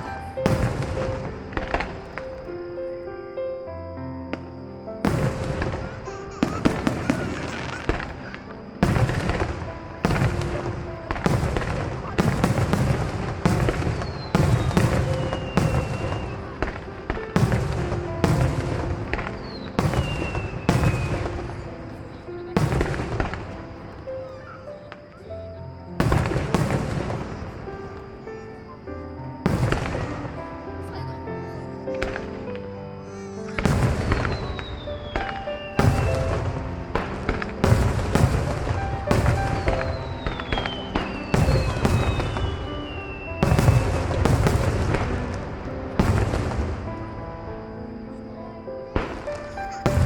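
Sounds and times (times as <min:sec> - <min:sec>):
fireworks booming and cracking: 0:00.0 - 0:02.6, 0:04.3 - 0:48.2, 0:48.8 - 0:50.0
music: 0:00.0 - 0:50.0.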